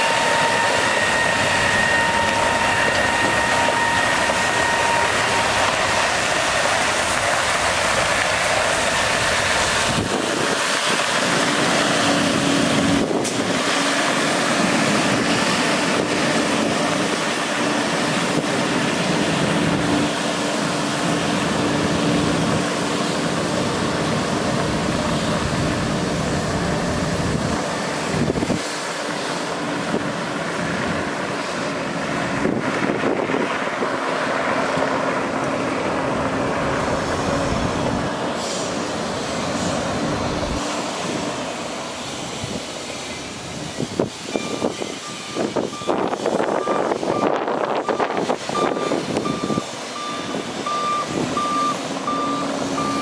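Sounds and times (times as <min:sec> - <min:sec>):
truck engine and pump humming: 0:00.0 - 0:53.0.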